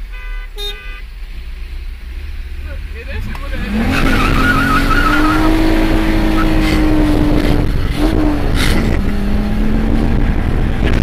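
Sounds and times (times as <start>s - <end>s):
road and wind noise: 0.0s - 11.0s
car engine accelerating: 1.3s - 11.0s.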